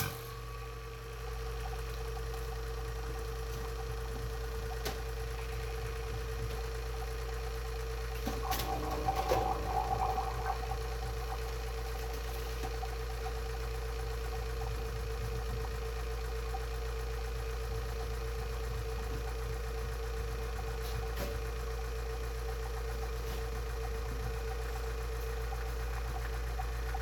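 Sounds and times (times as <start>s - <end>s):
vacuum pump motor humming: 0.0s - 27.0s.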